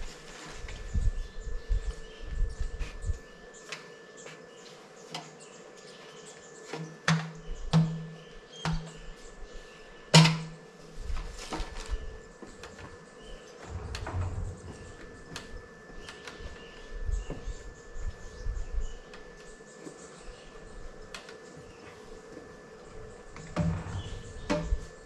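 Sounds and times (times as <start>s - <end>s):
steady insect buzz: 0.0s - 25.0s.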